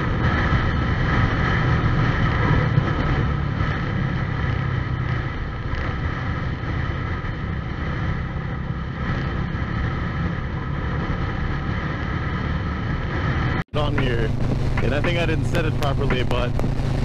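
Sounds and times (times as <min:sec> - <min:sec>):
motorcycle engine running: 0:00.0 - 0:17.0
road rumble: 0:00.0 - 0:17.0
wind on microphone: 0:00.0 - 0:17.0.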